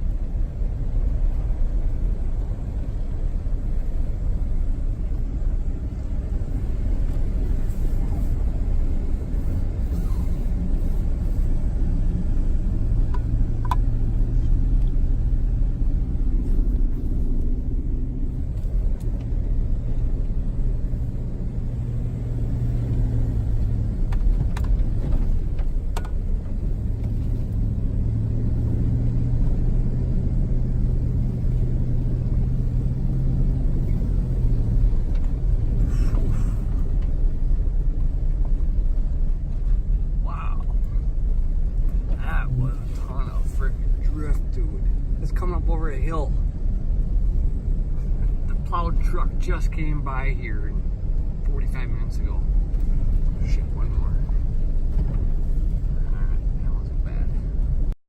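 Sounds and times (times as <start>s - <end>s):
road rumble: 0.0s - 58.0s
vehicle engine hum: 0.0s - 58.0s.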